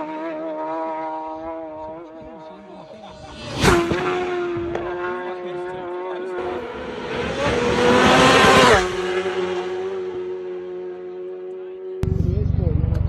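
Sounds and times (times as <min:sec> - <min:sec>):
racing motorcycles passing: 0:00.0 - 0:12.1.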